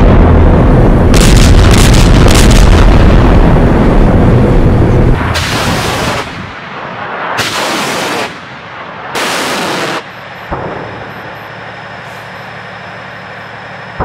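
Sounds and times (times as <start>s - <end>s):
rocket launch roar: 0.0s - 11.4s
steady low rumble: 0.0s - 14.0s.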